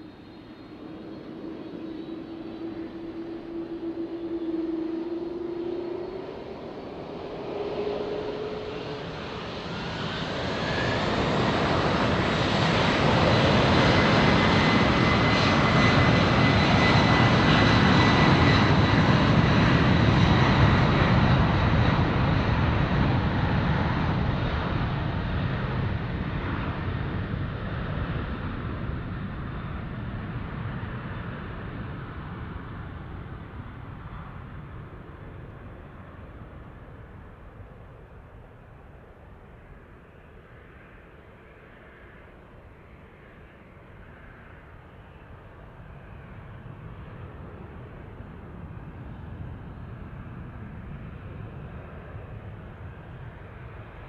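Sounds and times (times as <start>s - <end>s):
jet engines passing: 0.0s - 54.0s.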